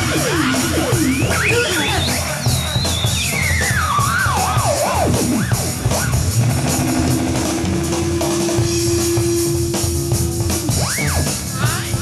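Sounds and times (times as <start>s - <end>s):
hard rock band playing: 0.0s - 12.0s.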